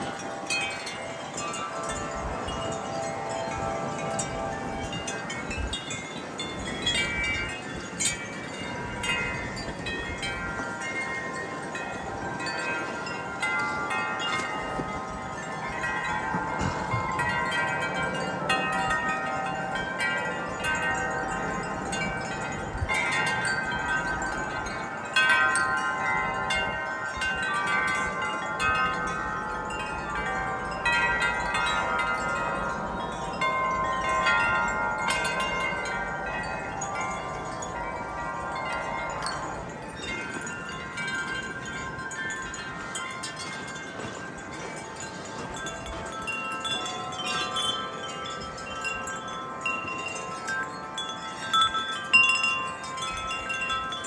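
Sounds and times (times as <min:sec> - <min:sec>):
wind chimes jangling: 0:00.0 - 0:54.0.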